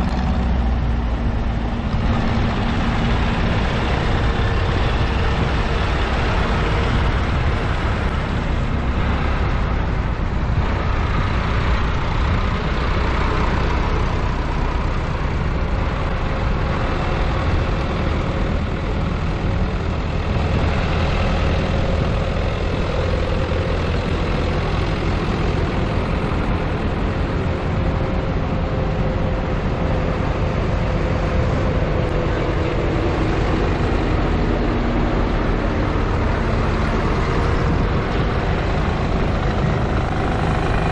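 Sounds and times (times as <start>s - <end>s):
tractor engines rumbling: 0.0s - 40.9s.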